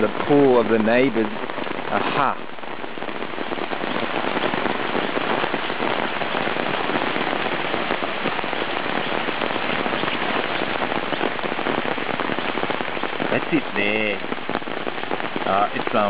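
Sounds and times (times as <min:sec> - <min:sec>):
heavy rain on ground and water: 0:00.0 - 0:16.0.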